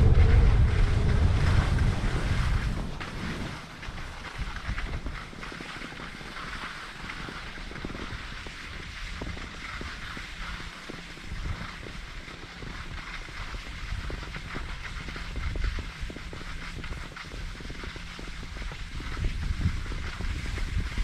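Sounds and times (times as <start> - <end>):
skis scraping over snow: 0.0 - 21.0
wind rumbling on microphone: 0.0 - 21.0.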